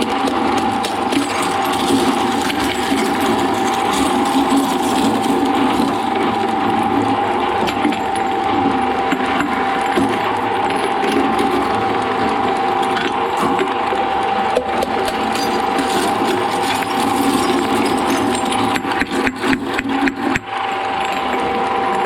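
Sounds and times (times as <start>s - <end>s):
shredder machine drone: 0.0s - 22.0s.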